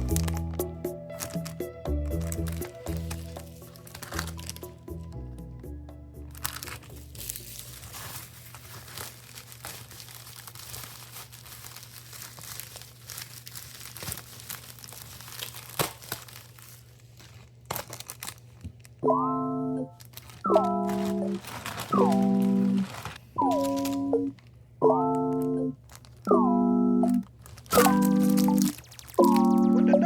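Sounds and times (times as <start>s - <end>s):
packaging crinkling: 0.0s - 5.1s, 6.3s - 19.0s, 19.9s - 26.4s, 27.0s - 29.8s.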